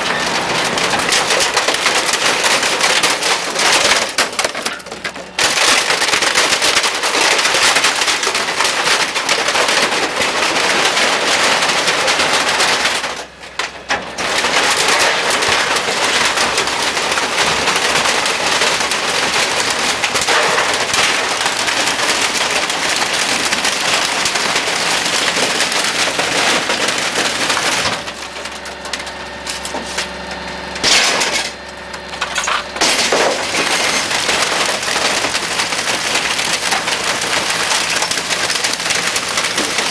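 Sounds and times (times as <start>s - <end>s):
glass and plastic crushing: 0.0s - 39.9s
steady mechanical hum: 0.0s - 39.9s.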